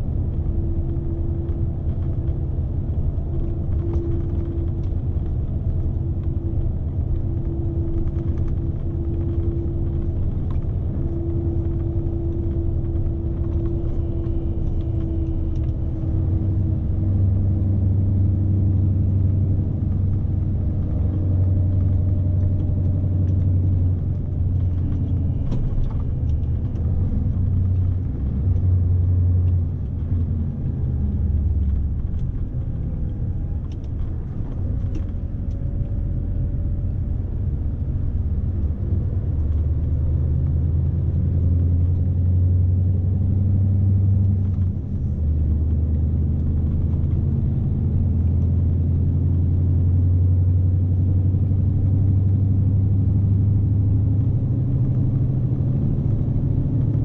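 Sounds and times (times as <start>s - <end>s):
diesel truck engine drone: 0.0s - 57.0s
tyre and road rumble: 0.0s - 57.0s.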